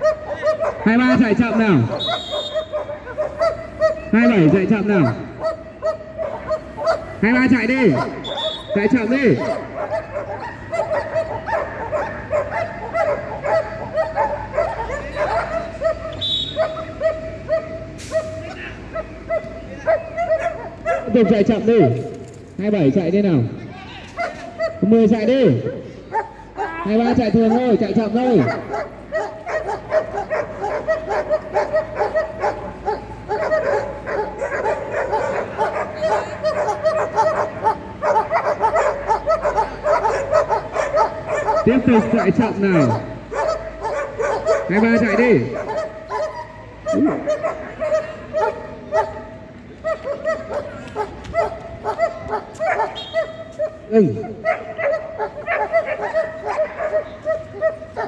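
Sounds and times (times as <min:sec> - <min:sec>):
dog barking: 0:00.0 - 0:22.2, 0:24.1 - 0:58.0.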